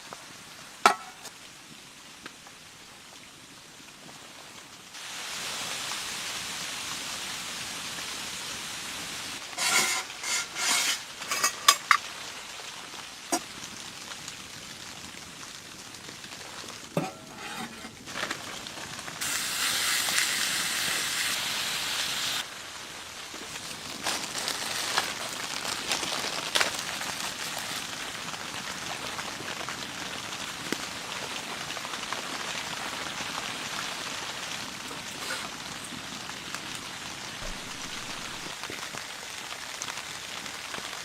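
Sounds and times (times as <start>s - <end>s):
food sizzling in a pan: 4.9s - 28.4s, 30.4s - 41.0s.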